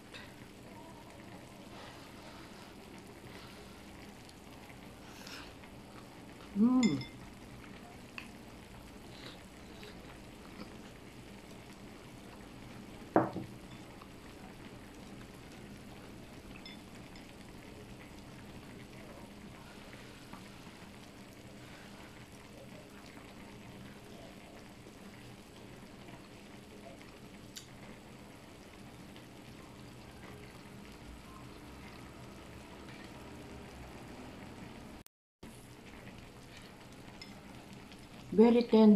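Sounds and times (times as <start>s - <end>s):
hotpot simmering: 0.0s - 38.9s.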